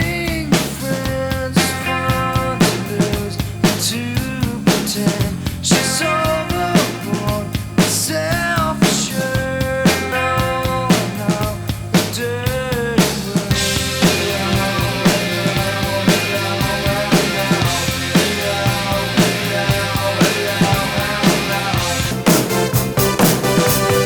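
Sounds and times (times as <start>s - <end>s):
electronic drum kit beat: 0.0s - 24.0s
rock music: 0.0s - 24.0s.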